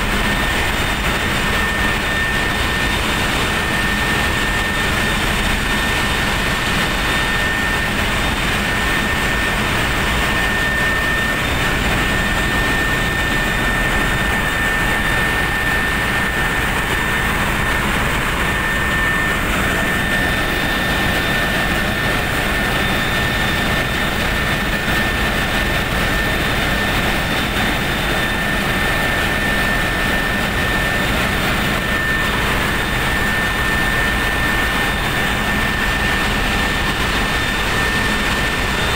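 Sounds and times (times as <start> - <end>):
high-pitched whine: 0.0 - 38.9
machinery drone: 0.0 - 38.9.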